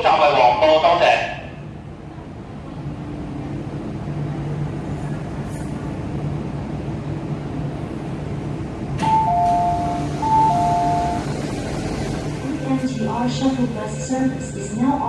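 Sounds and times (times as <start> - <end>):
metro train hum: 0.0 - 15.0.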